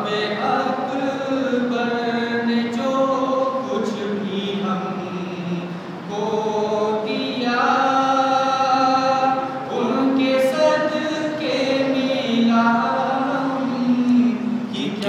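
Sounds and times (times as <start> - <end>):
man singing into microphone: 0.0 - 15.0.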